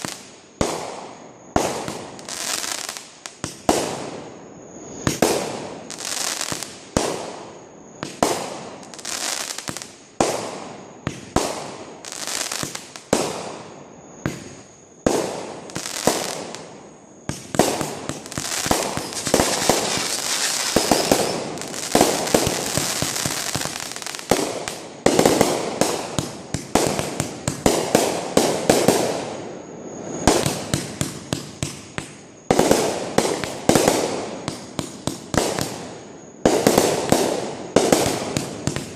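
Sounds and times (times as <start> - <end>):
firework crackling: 0.0 - 4.3, 4.9 - 38.9
firework bangs: 5.0 - 29.5, 30.1 - 38.9.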